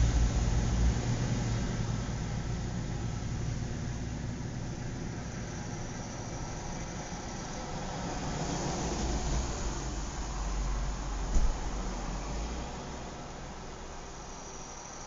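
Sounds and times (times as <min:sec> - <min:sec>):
vehicle approaching: 0:00.0 - 0:14.7
road traffic rumble: 0:00.0 - 0:15.0.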